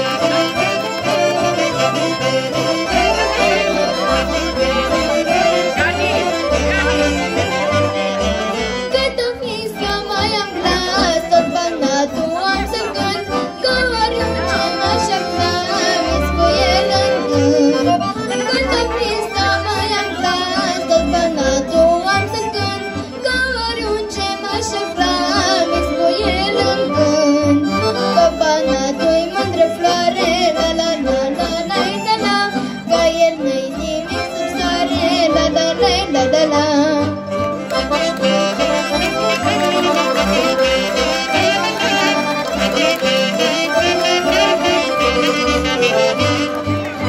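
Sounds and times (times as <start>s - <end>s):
folk band with accordions and saxophones: 0.0s - 47.0s.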